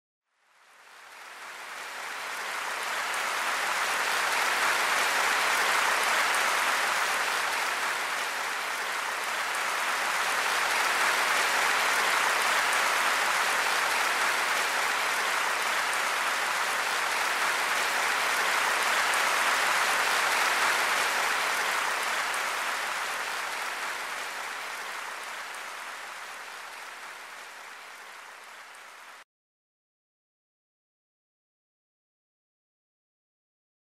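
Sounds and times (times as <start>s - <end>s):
large audience applause: 0.5s - 29.2s.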